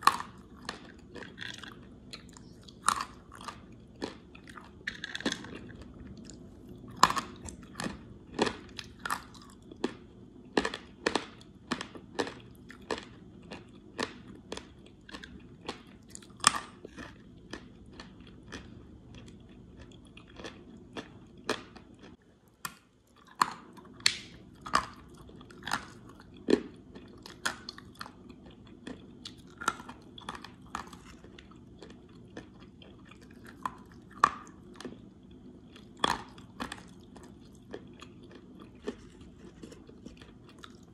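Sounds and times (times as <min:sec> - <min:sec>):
chewing crunchy clay: 0:00.0 - 0:40.9.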